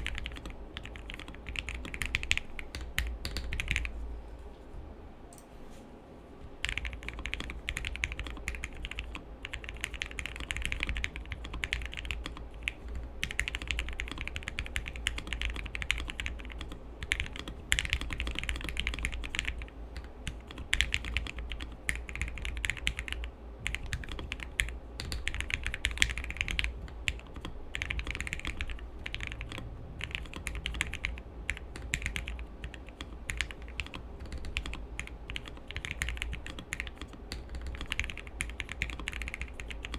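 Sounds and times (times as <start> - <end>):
mechanical keyboard typing: 0.0 - 3.9, 6.6 - 39.9.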